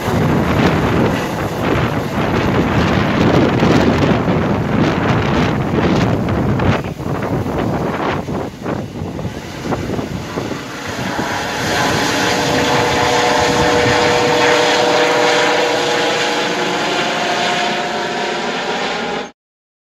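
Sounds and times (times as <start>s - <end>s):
helicopter flying overhead: 0.0s - 19.4s.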